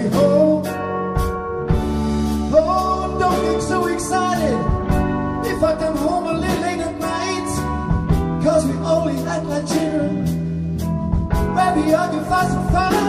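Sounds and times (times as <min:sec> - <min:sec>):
band playing soul ballad: 0:00.0 - 0:13.0.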